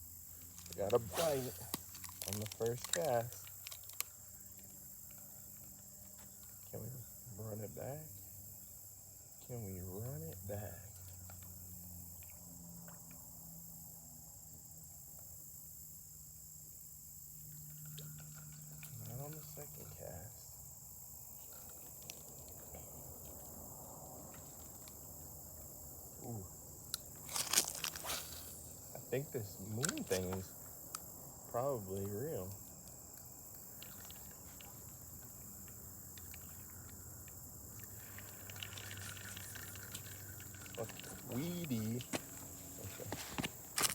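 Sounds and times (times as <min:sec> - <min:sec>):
faint low hum: 0:00.0 - 0:43.9
insects trilling: 0:00.0 - 0:43.9.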